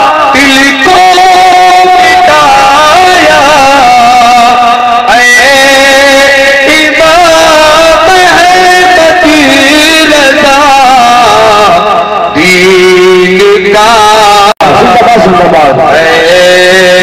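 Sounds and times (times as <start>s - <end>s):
man singing devotional song: 0.0s - 17.0s.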